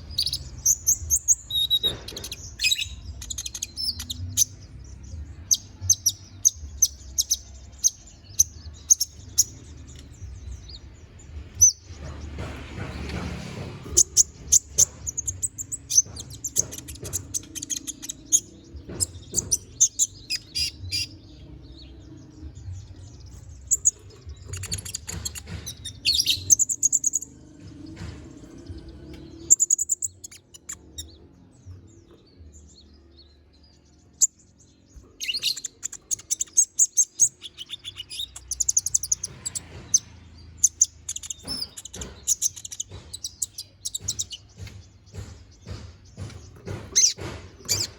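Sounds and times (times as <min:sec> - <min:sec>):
bird twittering chirps and trills: 0:00.0 - 0:47.9.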